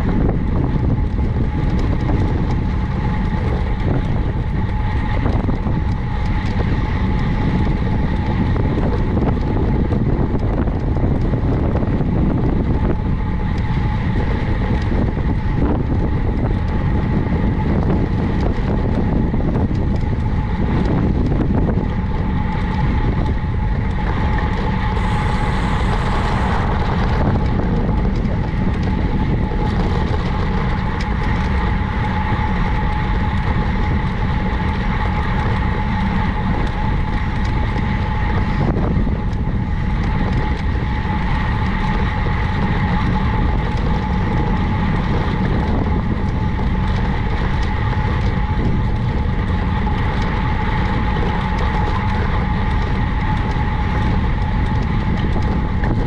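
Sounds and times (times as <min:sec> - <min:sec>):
bike tyre noise on road: 0:00.0 - 0:56.0
constant high hum: 0:00.0 - 0:56.0
wind rushing over microphone: 0:00.0 - 0:56.0.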